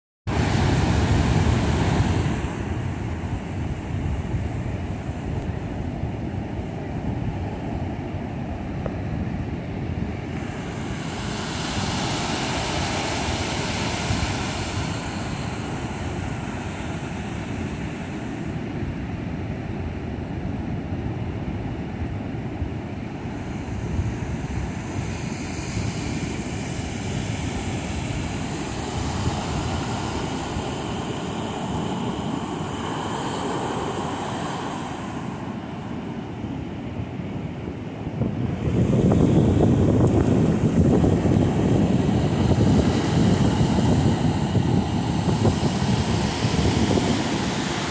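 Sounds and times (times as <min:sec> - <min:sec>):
ocean surf breaking: 0:00.3 - 0:47.9
wind rumble on microphone: 0:00.3 - 0:47.9.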